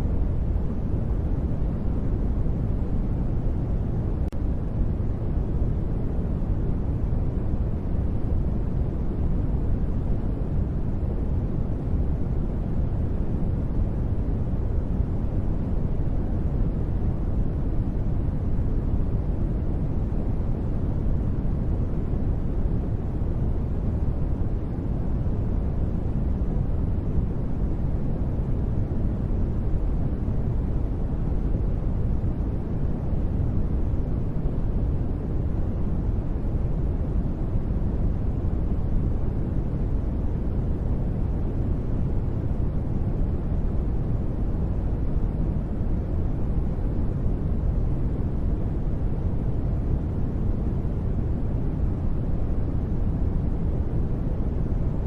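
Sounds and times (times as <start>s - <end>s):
deep rumbly white noise hiss: 0.0s - 55.0s.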